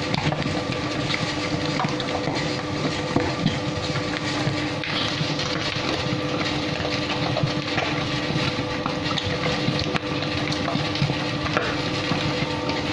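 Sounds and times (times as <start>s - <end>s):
dough mixer motor humming: 0.0s - 12.9s.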